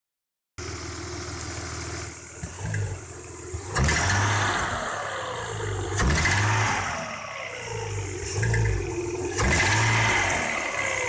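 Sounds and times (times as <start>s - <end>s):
car engine idling and revving: 0.6s - 11.0s.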